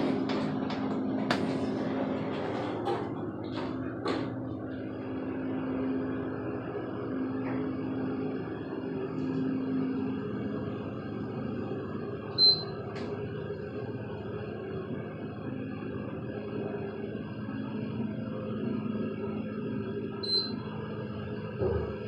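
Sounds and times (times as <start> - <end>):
elevator car humming: 0.0 - 22.0.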